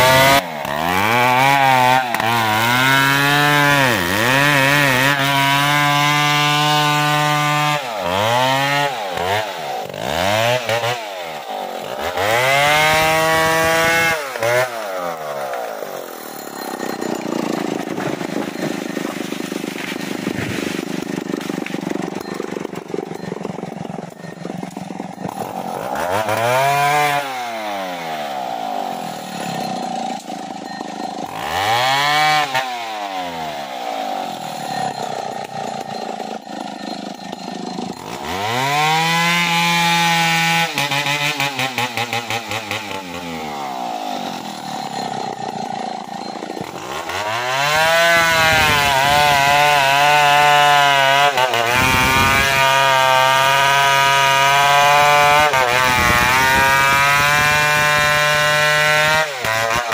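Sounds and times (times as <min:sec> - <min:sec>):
chainsaw cutting tree trunk: 0:00.0 - 0:59.9
chainsaw revving: 0:00.0 - 0:59.9.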